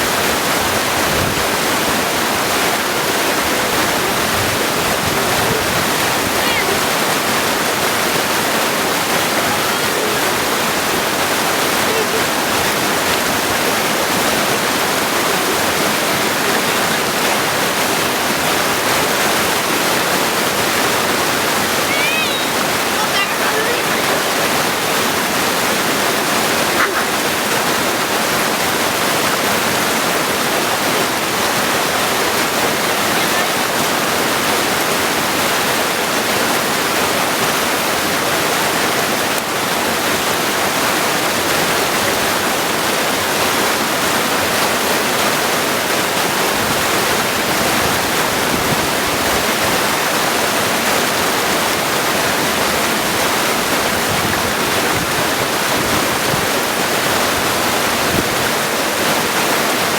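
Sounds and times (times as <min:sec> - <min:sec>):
creek water rushing over stones: 0:00.0 - 0:59.9.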